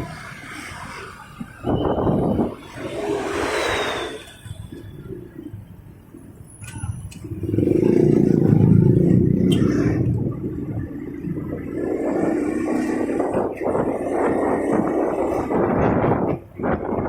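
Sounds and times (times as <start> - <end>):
motor vehicle engine: 0.0 - 17.0
road traffic: 0.0 - 17.0.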